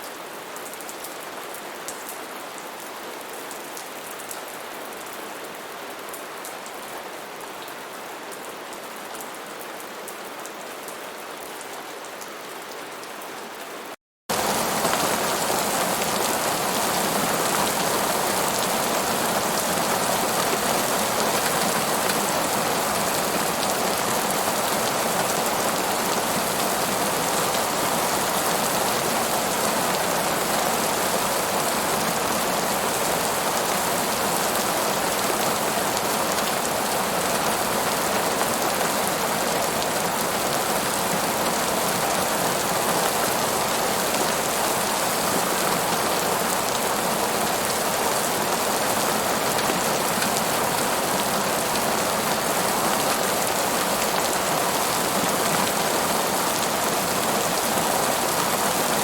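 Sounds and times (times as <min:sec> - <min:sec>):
rain pattering on a surface: 0:00.0 - 0:13.7, 0:14.3 - 0:59.0.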